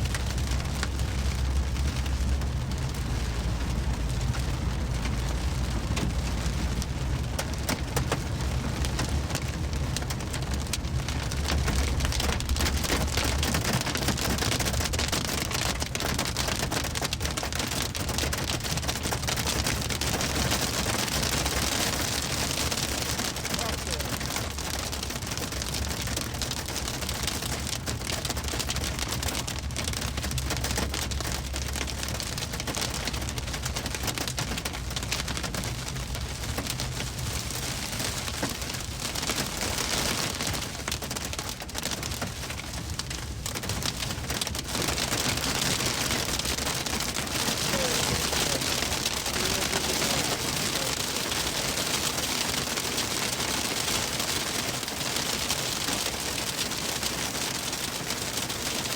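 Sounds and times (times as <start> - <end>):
hail and rain pelting a car: 0.0 - 58.9.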